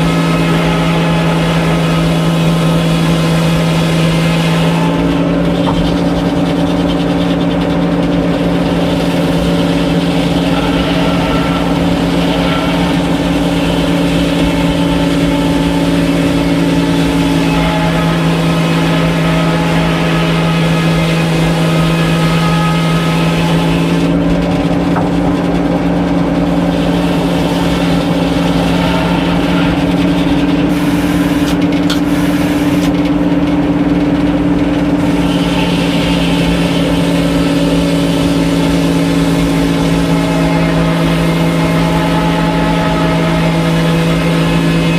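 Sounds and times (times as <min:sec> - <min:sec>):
sawmill machinery humming: 0:00.0 - 0:44.9.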